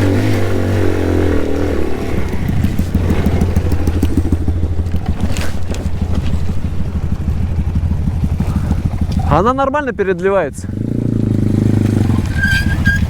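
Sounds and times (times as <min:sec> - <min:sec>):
moped engine chugging: 0:00.0 - 0:13.0.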